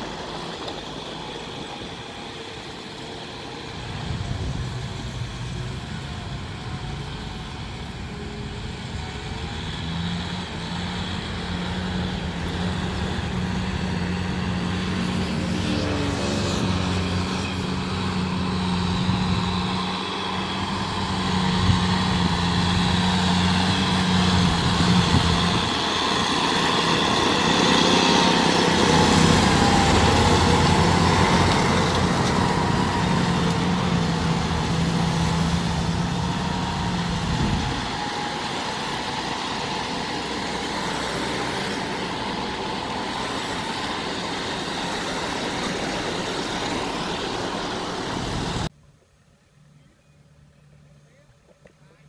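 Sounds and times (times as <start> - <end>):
tractor diesel engine running: 0.0 - 48.8.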